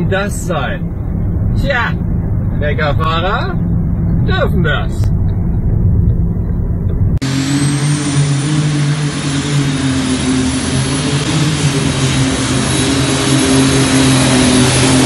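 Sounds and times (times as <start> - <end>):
car interior road noise: 0.0 - 12.7
tractor engine at full power: 0.0 - 15.0.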